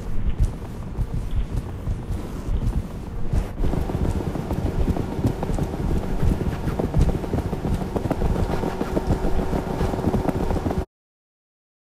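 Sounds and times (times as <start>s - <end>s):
dense low rumbling noise: 0.0s - 10.8s
faint steady hum: 0.0s - 10.8s
rapid irregular clicks and knocks: 0.0s - 10.8s.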